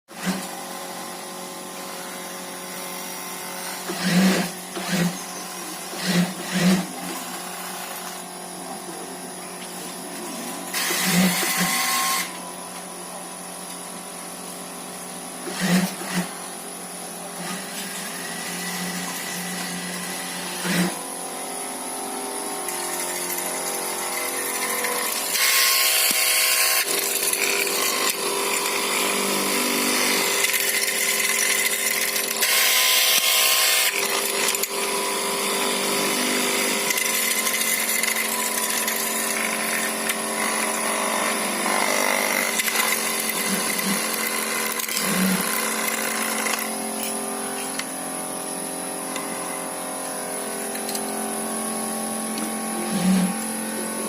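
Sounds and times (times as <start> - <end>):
fabric cutting machine whining: 0.1 - 54.0.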